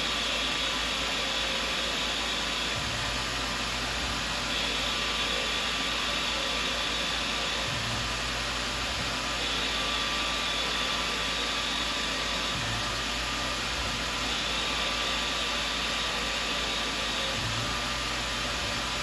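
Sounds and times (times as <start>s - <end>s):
mill spindle hiss and whine: 0.0s - 19.0s.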